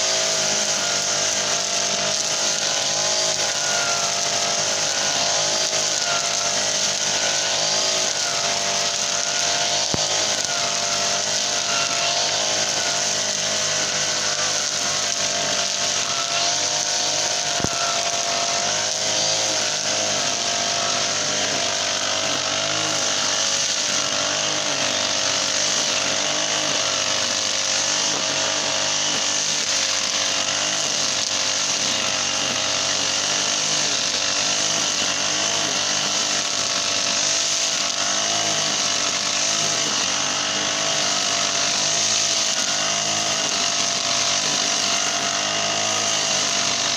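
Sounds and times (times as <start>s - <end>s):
brush cutter engine running: 0.0s - 46.9s.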